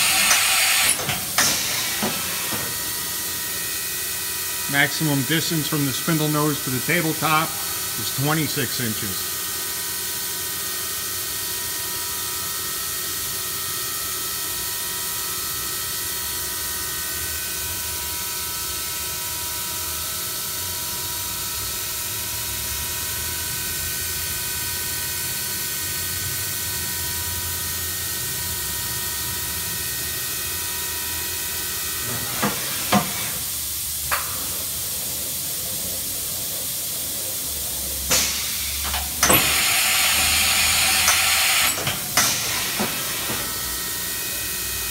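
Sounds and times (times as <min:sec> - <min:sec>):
machining center hiss and whine: 0:00.0 - 0:16.0, 0:18.2 - 0:44.9.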